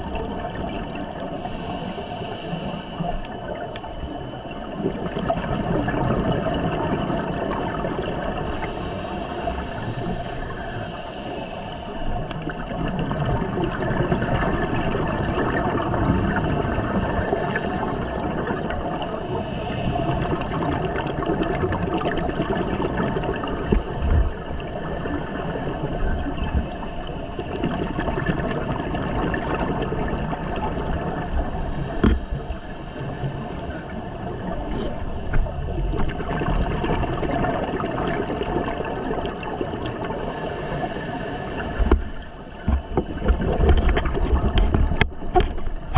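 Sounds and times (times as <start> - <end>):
underwater rushing and gurgling: 0.0 - 45.9.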